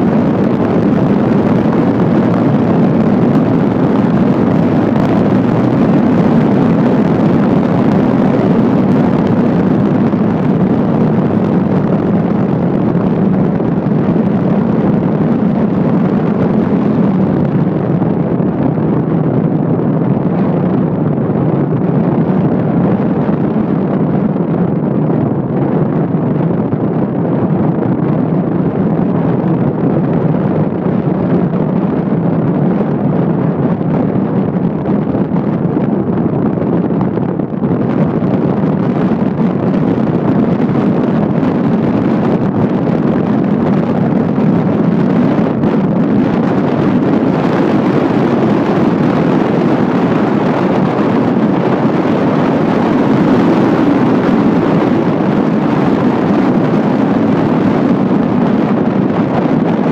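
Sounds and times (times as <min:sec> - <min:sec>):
car road and wind noise: 0:00.0 - 0:59.9.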